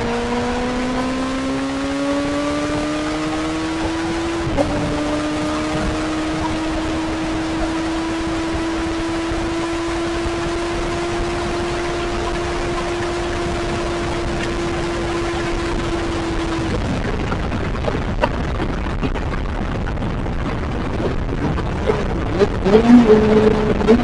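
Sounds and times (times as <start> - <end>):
vehicle noise with hum: 0.0 - 24.0.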